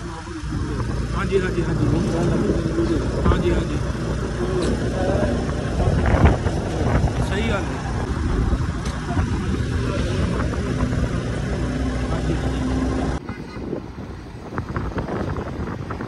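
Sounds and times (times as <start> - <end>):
motorbike engine hum: 0.0 - 16.0
road noise: 0.0 - 16.0
roadside traffic noise: 0.0 - 16.0
wind rumble on microphone: 0.0 - 16.0.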